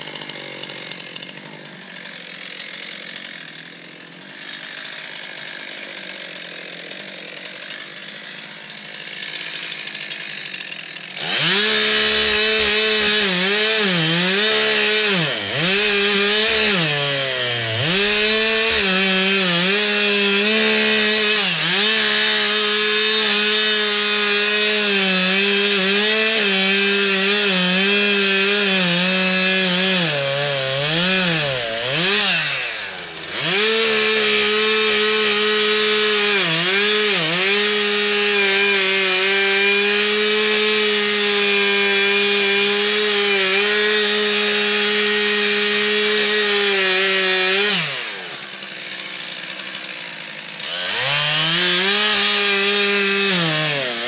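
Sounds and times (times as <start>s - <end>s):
chainsaw cutting into log: 0.0s - 54.0s.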